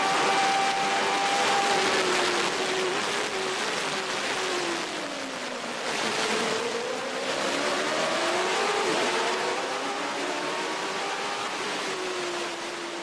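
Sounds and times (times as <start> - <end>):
race car engine revving: 0.0 - 5.0, 5.6 - 13.0.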